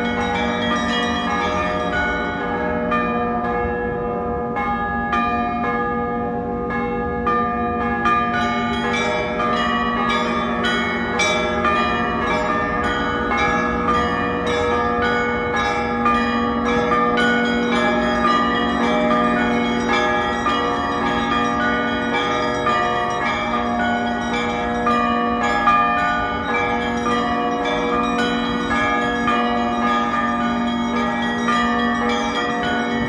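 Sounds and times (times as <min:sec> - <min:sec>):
church bells ringing: 0:00.0 - 0:33.0
hum of lower bells: 0:00.0 - 0:33.0.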